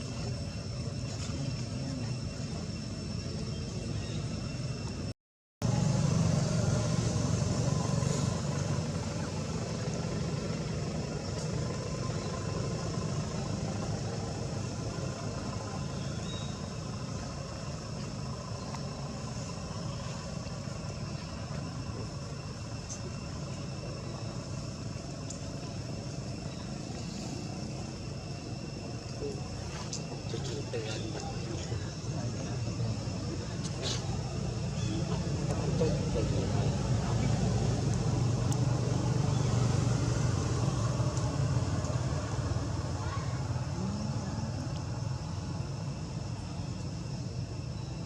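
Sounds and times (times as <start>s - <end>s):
vehicle engine rumbling: 0.0s - 48.0s.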